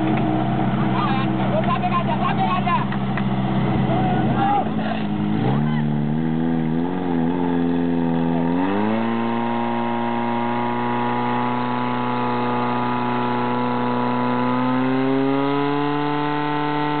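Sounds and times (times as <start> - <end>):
pump engine revving: 0.0 - 17.0.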